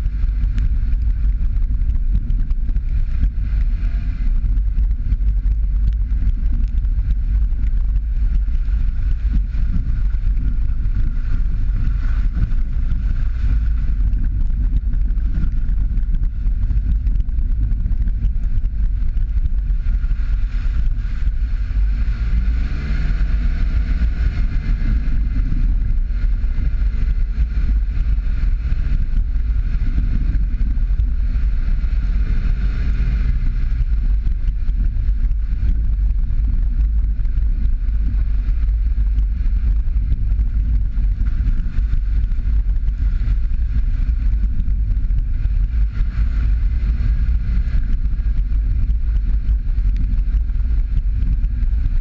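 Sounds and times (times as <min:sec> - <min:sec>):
car driving low rumble: 0:00.0 - 0:52.0.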